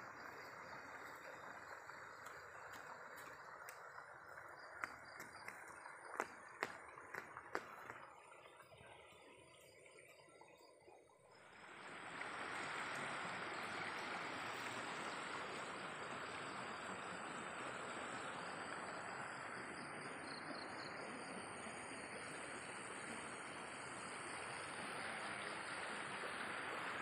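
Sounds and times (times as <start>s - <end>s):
water rushing through canal: 0.0s - 27.0s.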